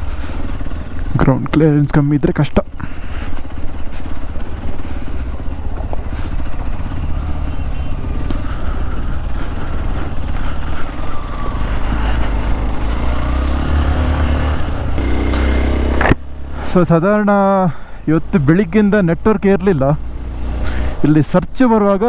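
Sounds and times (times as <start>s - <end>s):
motorcycle engine running: 0.0s - 21.2s.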